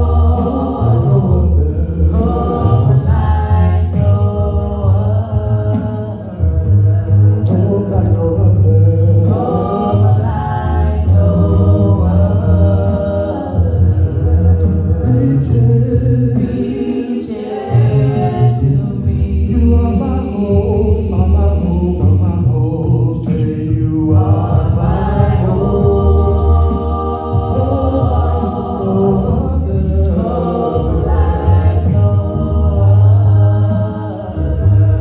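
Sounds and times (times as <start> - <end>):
men singing a cappella gospel: 0.0 - 35.0.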